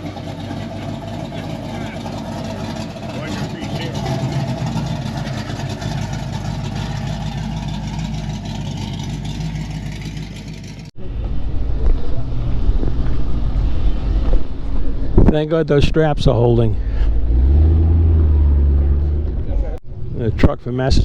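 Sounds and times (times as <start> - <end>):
deep loud rumble: 0.0 - 20.4
vehicle engine humming: 0.0 - 21.0.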